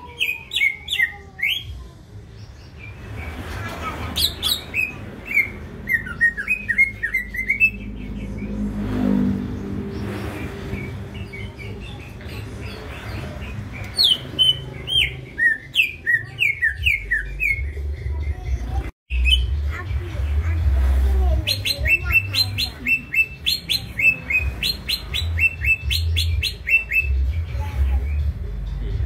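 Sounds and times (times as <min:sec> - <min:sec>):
bird chirping song: 0:00.0 - 0:29.0.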